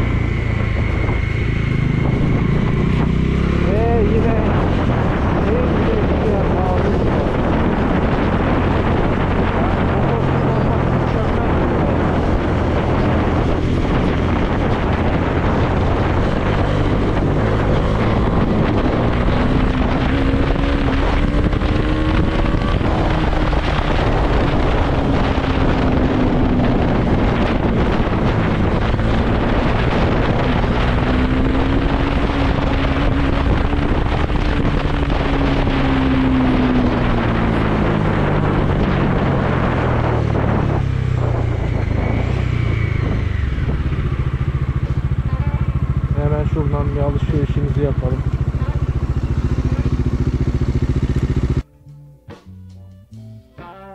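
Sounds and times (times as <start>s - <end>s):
wind rushing on microphone: 0.0s - 51.6s
motorcycle engine running: 0.0s - 52.5s.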